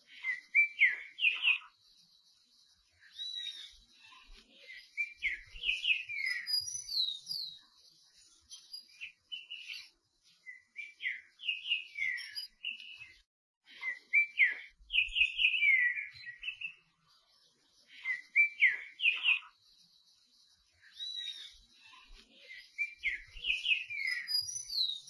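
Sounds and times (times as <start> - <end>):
bird singing whistled notes: 0.0 - 13.2, 13.8 - 25.0.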